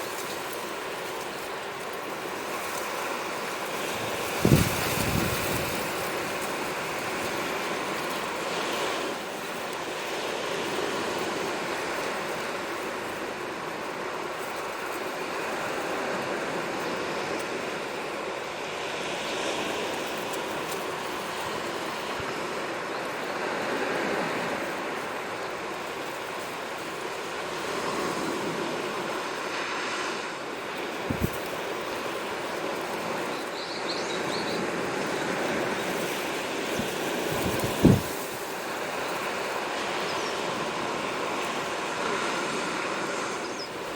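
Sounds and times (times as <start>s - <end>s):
sea waves washing onto shore: 0.0s - 43.9s.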